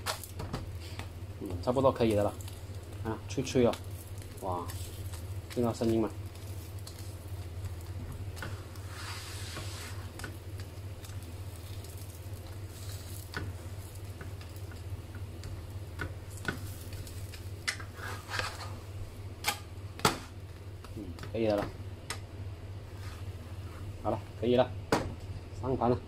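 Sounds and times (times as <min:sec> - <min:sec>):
flatbread sizzling in oil: 0:00.0 - 0:21.1.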